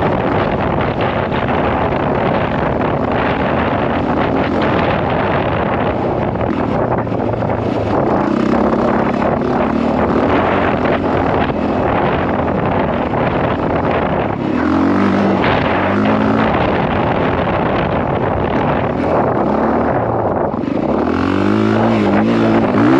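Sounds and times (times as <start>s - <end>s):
motorcycle engine running at speed: 0.0s - 22.9s
wind rushing over microphone: 0.0s - 22.9s.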